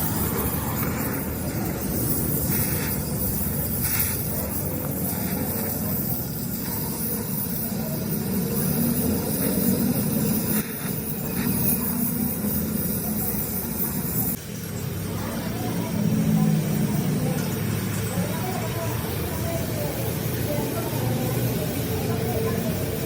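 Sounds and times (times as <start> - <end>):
indistinct voices: 0.0 - 23.0
mechanical engine rumble: 0.0 - 23.0.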